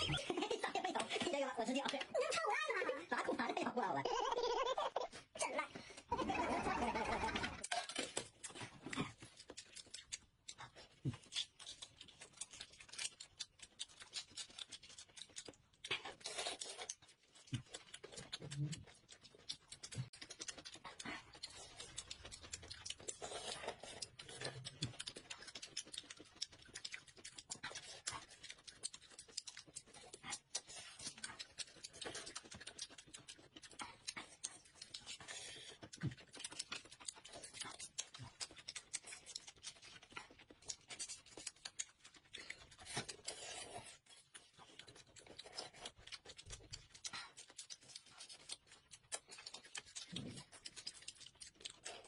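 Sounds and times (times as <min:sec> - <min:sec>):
chewing clicks and crackles: 0:06.8 - 0:52.0.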